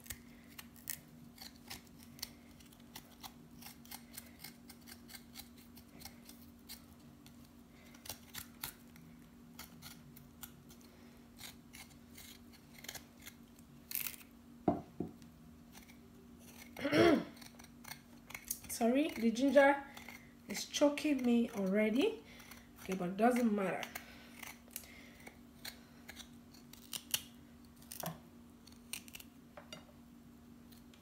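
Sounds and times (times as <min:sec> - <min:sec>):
knife scraping ginger skin: 0:00.0 - 0:14.4, 0:15.6 - 0:29.3.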